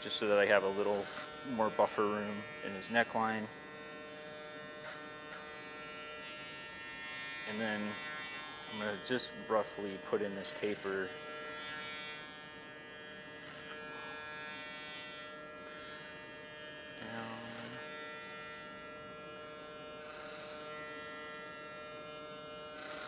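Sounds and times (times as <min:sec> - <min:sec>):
electric hair clipper humming: 0:00.0 - 0:23.0
clipper blade rasping through hair: 0:00.7 - 0:23.0.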